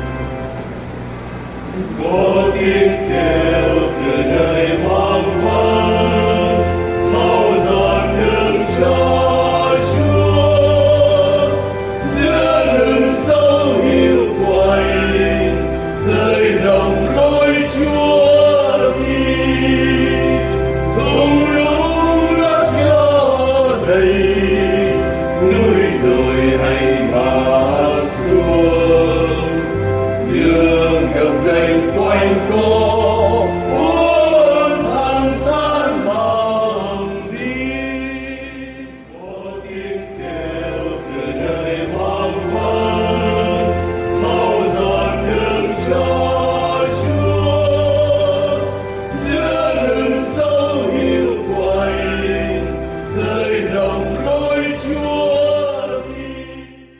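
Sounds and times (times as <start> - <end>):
choir singing a hymn: 0.0 - 56.9
instrumental accompaniment with bass: 0.0 - 56.9.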